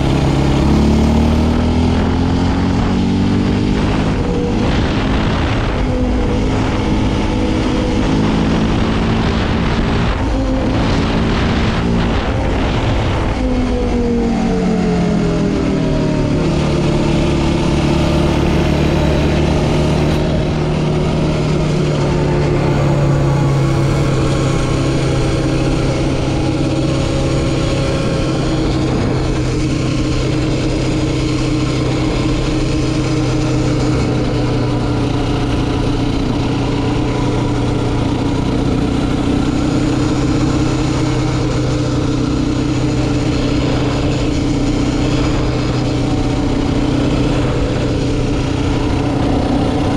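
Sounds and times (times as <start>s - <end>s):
quad bike engine: 0.0s - 49.9s.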